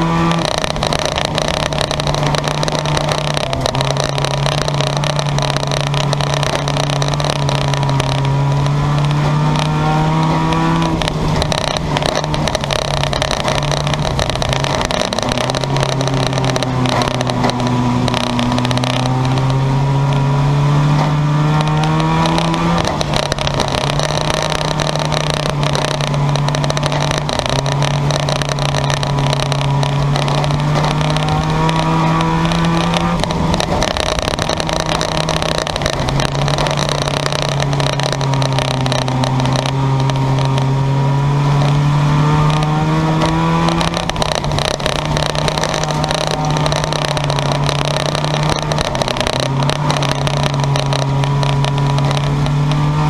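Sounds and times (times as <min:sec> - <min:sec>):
race car engine revving: 0:00.0 - 0:53.0
race car engines running: 0:00.0 - 0:53.0.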